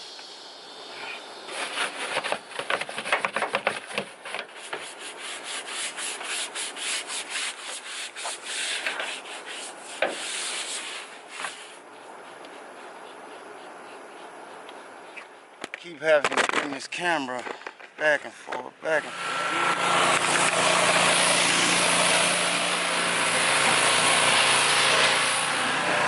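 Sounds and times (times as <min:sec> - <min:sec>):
stiff brush scrubbing: 0:00.9 - 0:17.2, 0:18.1 - 0:25.5.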